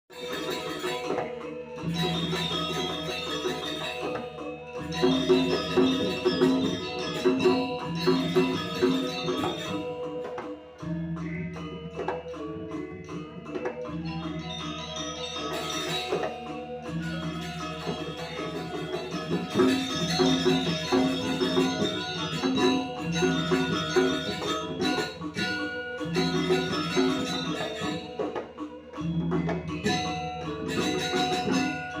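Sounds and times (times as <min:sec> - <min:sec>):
gamelan ensemble playing: 0:00.1 - 0:32.0
jingling clashing percussion: 0:00.1 - 0:32.0
struck ringing metal tones: 0:00.1 - 0:32.0.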